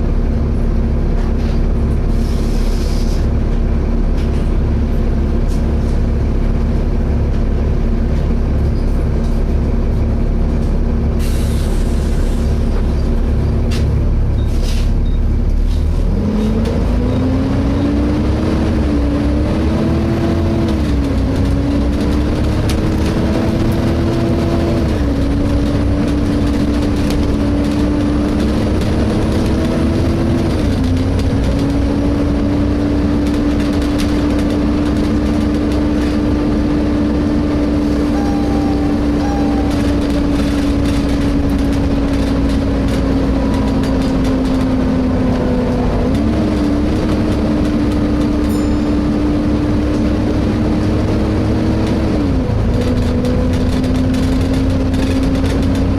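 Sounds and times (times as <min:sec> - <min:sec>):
bus engine rumble: 0:00.0 - 0:55.9.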